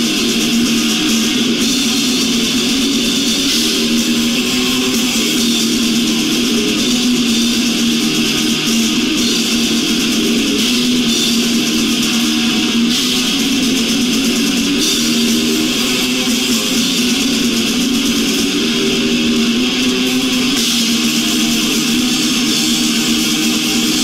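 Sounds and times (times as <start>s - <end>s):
death metal band playing live: 0.0s - 24.0s.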